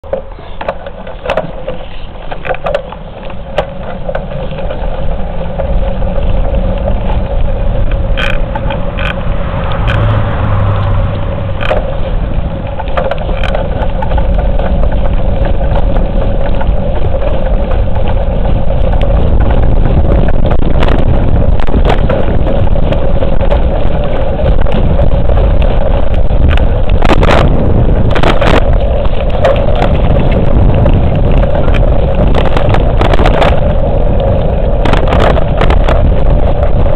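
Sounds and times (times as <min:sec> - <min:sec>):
bike knocks and rattles: 0:00.0 - 0:10.3, 0:11.2 - 0:36.9
bicycle tyres rolling on asphalt: 0:00.0 - 0:36.9
wind buffeting microphone: 0:00.0 - 0:36.9.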